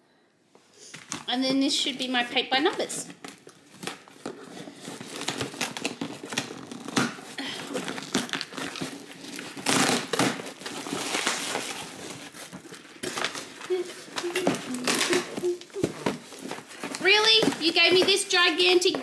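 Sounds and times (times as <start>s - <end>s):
packaging crinkling and rustling: 1.9s - 19.0s.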